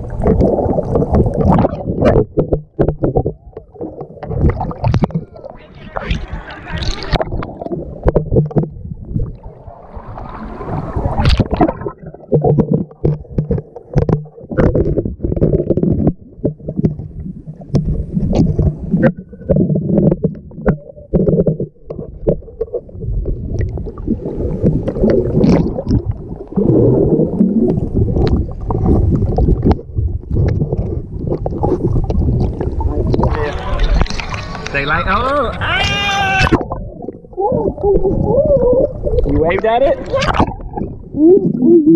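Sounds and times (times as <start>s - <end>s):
underwater churning rumble: 0.0s - 41.9s.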